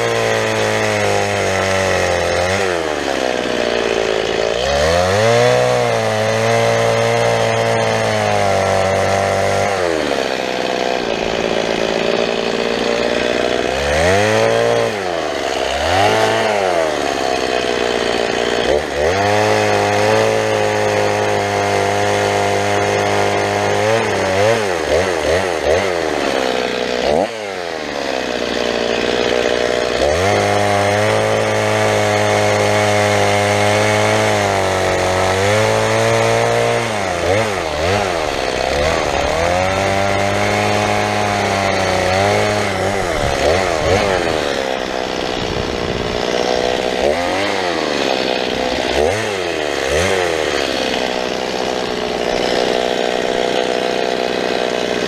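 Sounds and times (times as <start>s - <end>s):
chainsaw cutting branch: 0.0s - 55.0s
chainsaw revs blipping: 0.0s - 55.0s.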